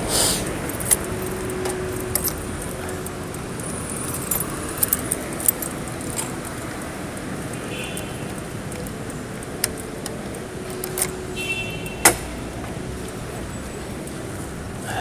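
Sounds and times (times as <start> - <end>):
light metallic jingles: 0.0 - 12.5
distant traffic: 0.0 - 15.0.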